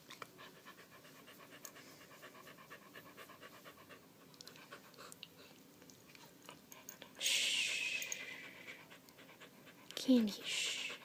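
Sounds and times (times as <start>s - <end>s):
dog panting rapidly: 0.3s - 5.5s, 6.8s - 11.0s.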